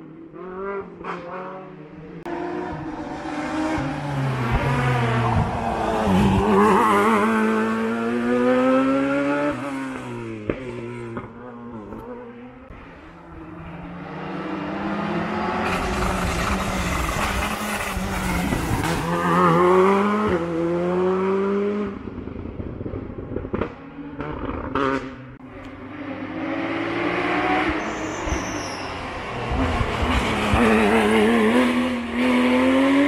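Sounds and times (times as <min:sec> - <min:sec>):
race car engine at full throttle: 0:00.0 - 0:33.0.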